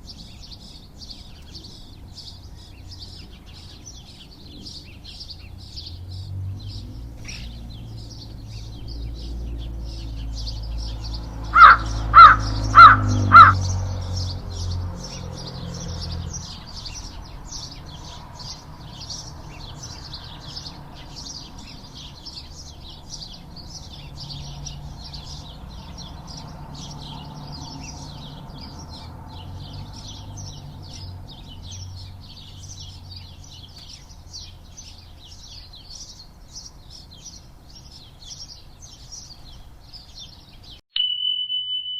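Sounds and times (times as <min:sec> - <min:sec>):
loud bird calling: 0:00.0 - 0:36.3
birds chirping: 0:00.0 - 0:41.9.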